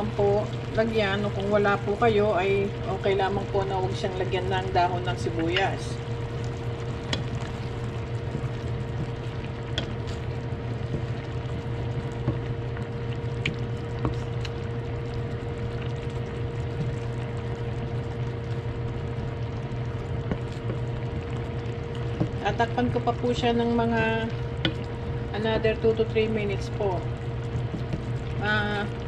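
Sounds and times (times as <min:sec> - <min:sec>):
low hum: 0:00.0 - 0:29.0
sauce simmering and bubbling: 0:00.0 - 0:29.0.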